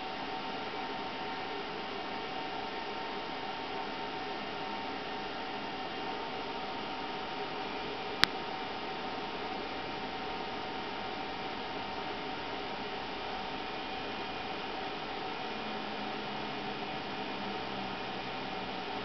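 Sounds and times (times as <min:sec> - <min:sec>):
projector cooling fan running: 0:00.0 - 0:19.0.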